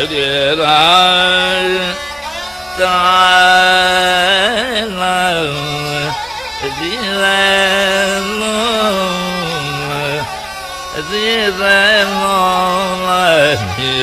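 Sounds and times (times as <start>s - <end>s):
man singing long held notes: 0.0s - 14.0s.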